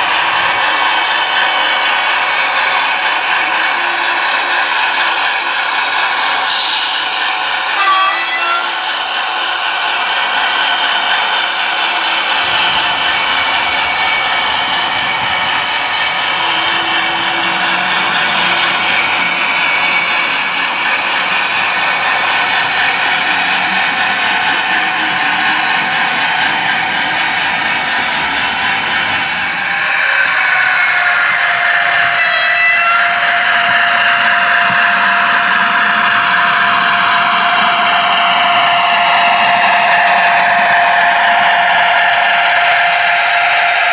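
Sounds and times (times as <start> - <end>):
locomotive motor whine: 0.0 - 43.9
model train whirring and rattling: 0.0 - 43.9.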